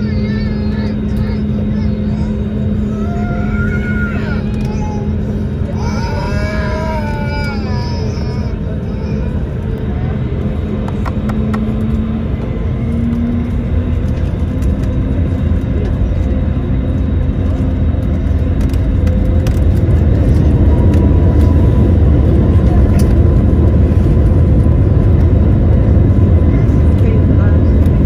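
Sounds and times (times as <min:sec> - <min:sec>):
aircraft engines low rumble: 0:00.0 - 0:28.0
thin engine whine: 0:00.0 - 0:28.0.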